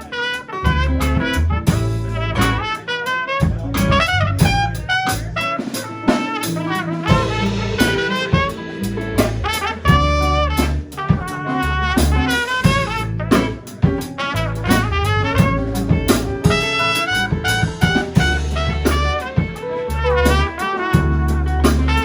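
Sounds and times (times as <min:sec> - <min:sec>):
band playing blues: 0:00.0 - 0:22.0
brass instrument lead: 0:00.0 - 0:22.0.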